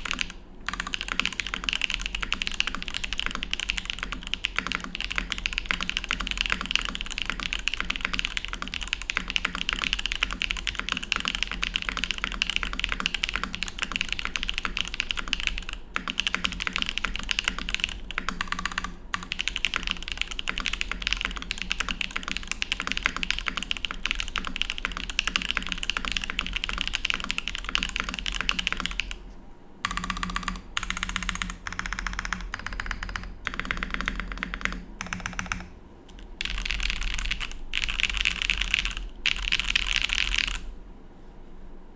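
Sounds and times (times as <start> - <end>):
fast mechanical keyboard typing: 0.0 - 29.2, 29.8 - 40.7.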